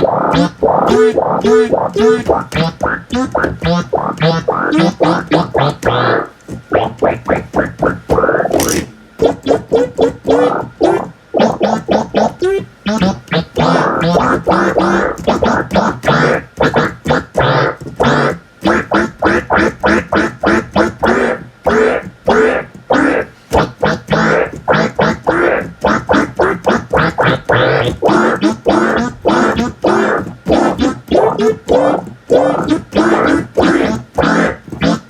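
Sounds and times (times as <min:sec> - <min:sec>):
choppy stuttering music: 0:00.0 - 0:35.0.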